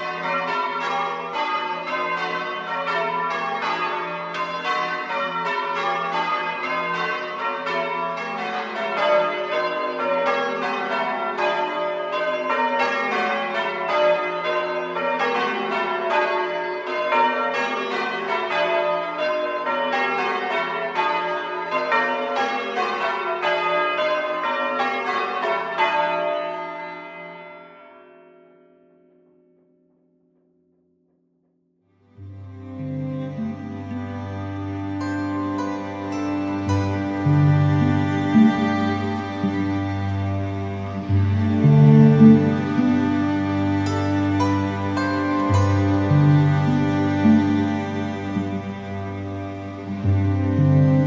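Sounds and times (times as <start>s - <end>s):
church bells ringing: 0.0s - 29.5s, 32.2s - 51.0s.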